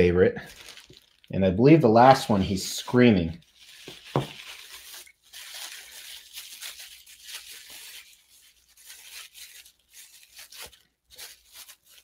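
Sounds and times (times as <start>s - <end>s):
packing wrap rustling and crinkling: 0.4s - 12.0s.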